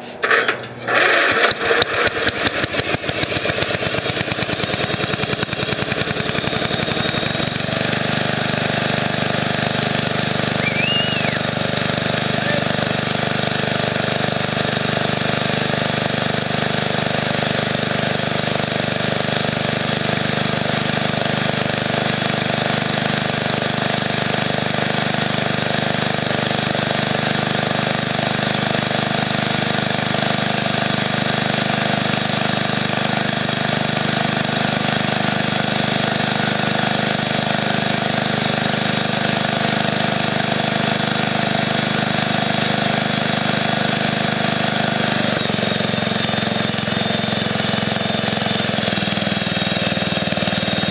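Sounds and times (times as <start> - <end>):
riding mower engine running: 0.0 - 50.9.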